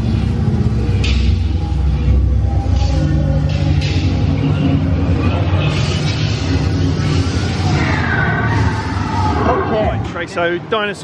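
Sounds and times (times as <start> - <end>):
deep steady rumble: 0.0 - 9.1
ride music: 0.0 - 10.0.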